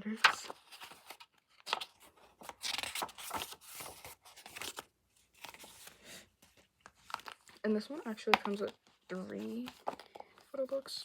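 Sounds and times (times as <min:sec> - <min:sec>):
paper and plastic rustling: 0:00.0 - 0:11.0.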